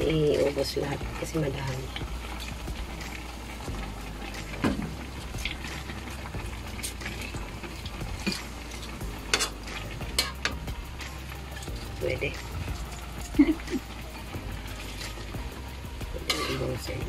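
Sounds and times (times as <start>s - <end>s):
broth bubbling: 0.0s - 17.0s.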